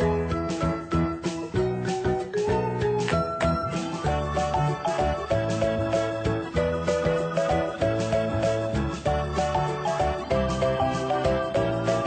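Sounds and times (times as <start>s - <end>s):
cheerful music with steady beat: 0.0s - 12.0s.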